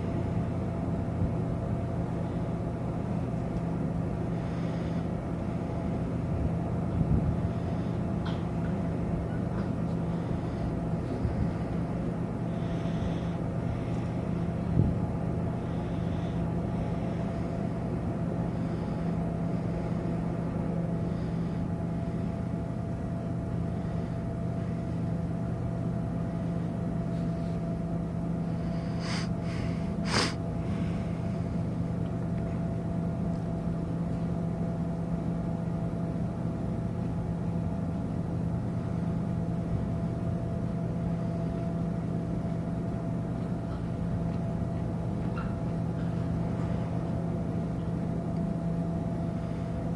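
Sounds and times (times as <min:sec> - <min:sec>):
ship engines droning: 0:00.0 - 0:49.9.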